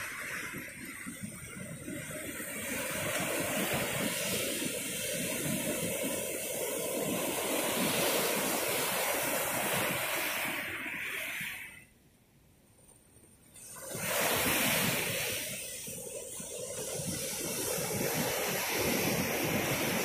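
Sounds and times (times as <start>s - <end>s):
ocean surf breaking: 0.0s - 11.8s, 13.6s - 20.0s.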